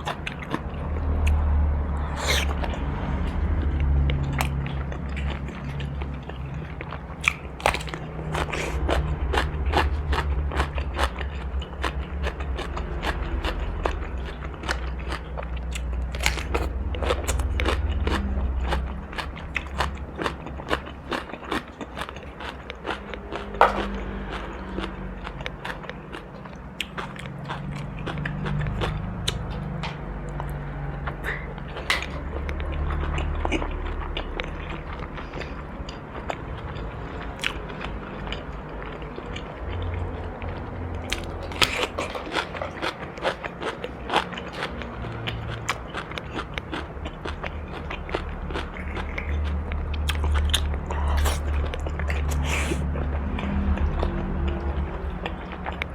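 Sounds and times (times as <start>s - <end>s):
chewing crunchy food: 0.0s - 55.9s.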